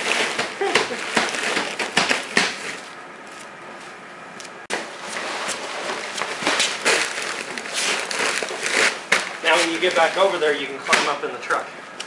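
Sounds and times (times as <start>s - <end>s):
plastic sacks rustling: 0.0s - 3.5s, 4.7s - 11.6s.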